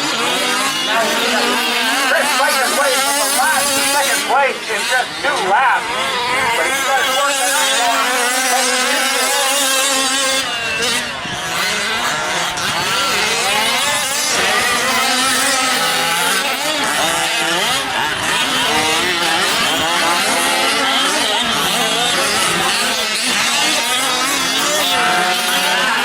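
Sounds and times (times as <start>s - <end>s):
rc truck engines racing: 0.0s - 26.0s.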